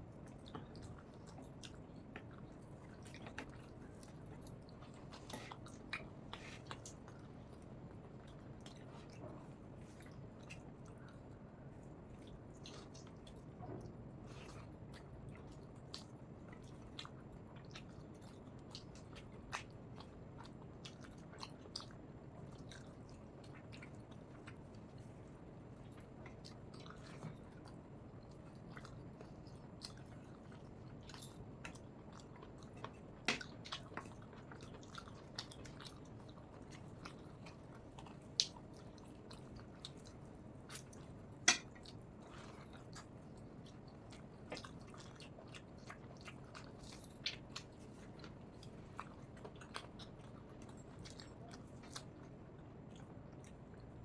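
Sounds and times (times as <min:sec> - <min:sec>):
person chewing food: 0:00.1 - 0:54.0.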